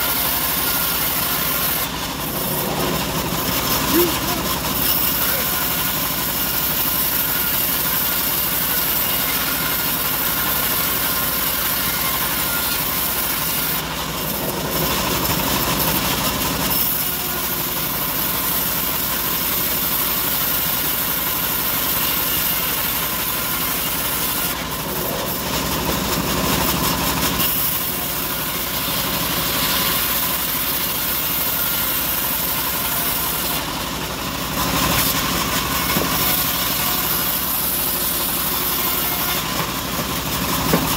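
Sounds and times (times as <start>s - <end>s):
bandsaw sawing wood: 0.0s - 40.9s.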